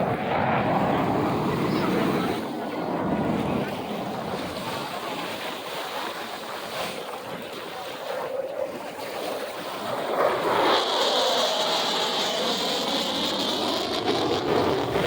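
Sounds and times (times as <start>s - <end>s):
fighter jet passing over: 0.0s - 6.2s, 8.4s - 15.0s
wind on microphone: 0.0s - 15.0s.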